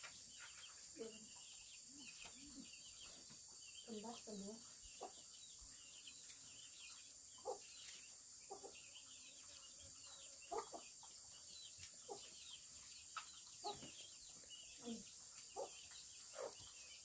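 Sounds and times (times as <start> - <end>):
chickens clucking softly: 0.0 - 6.4, 7.4 - 16.8.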